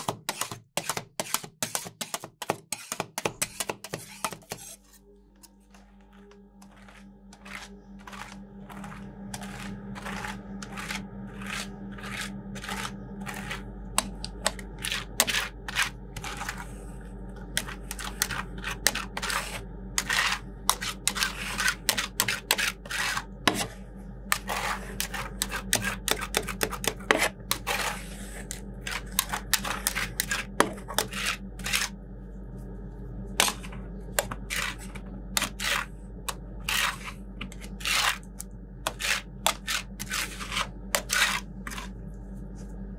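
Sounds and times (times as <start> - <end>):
steady low hum: 2.8 - 42.9.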